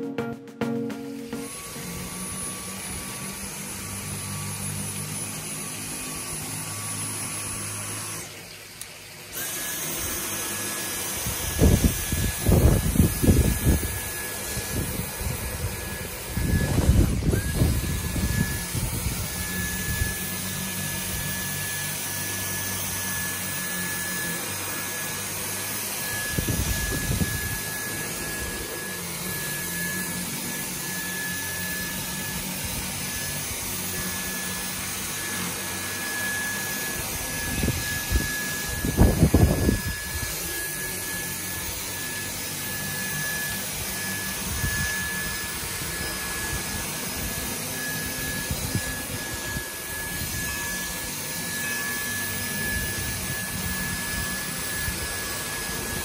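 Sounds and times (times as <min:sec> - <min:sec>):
cordless vacuum whining: 0:00.0 - 0:56.0.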